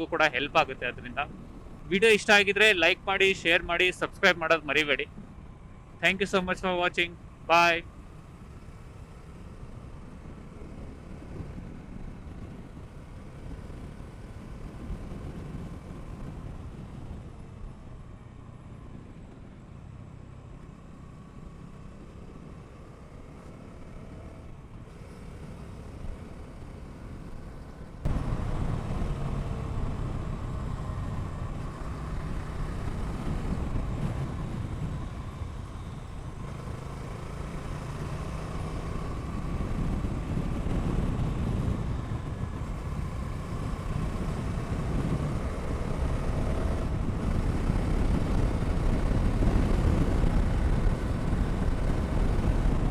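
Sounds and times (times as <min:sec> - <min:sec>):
motorcycle engine rumble: 0:00.0 - 0:52.9
road noise: 0:00.0 - 0:52.9.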